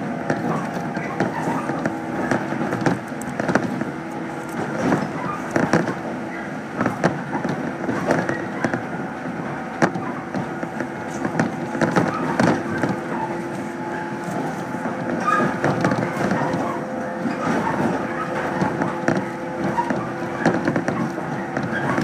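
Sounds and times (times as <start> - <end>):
train body clicks and rattles: 0.0 - 22.0
train running gear hum: 0.0 - 22.0.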